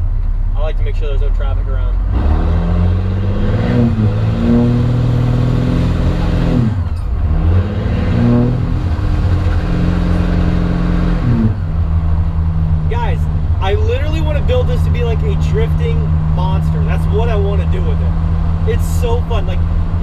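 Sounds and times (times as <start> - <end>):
diesel engine accelerating: 0.0 - 20.0.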